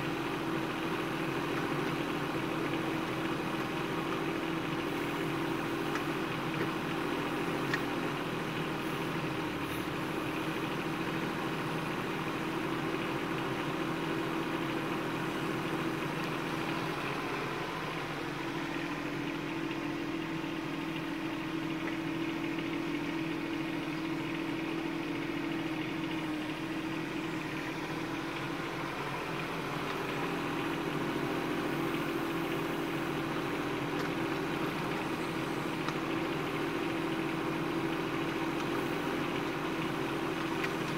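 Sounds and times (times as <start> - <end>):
mini excavator diesel engine running: 0.0 - 40.9.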